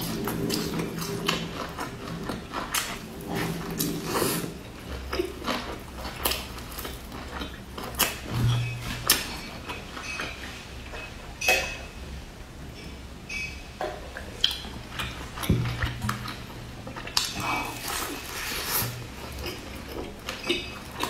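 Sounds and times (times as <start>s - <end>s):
chewing crisp food: 0.0s - 11.1s, 14.2s - 21.0s.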